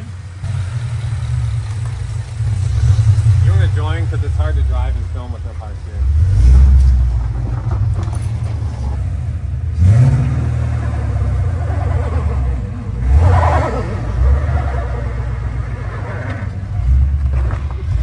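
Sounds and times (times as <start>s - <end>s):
car engine running loud: 0.0s - 18.0s.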